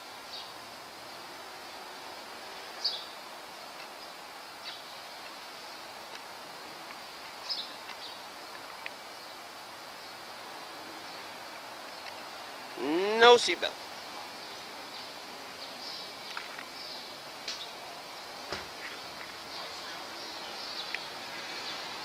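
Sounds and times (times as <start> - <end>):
street noise hum: 0.0 - 22.0.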